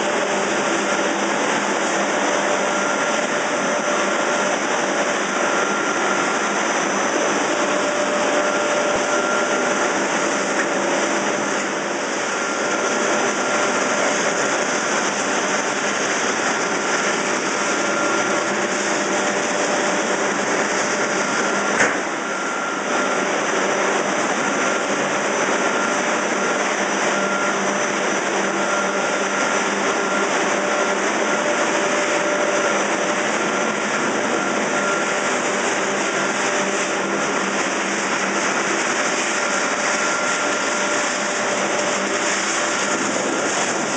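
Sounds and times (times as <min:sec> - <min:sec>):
constant machine tones: 0:00.0 - 0:43.9
machinery whirring: 0:00.0 - 0:43.9.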